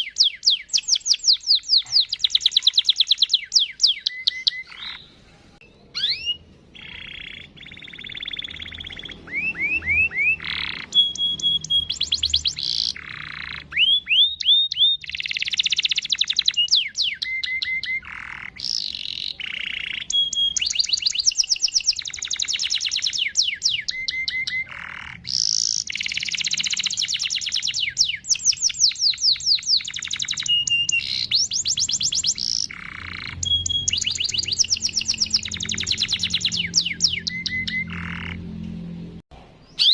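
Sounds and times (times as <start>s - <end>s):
canary singing with trills: 0.0s - 38.7s, 39.6s - 39.9s.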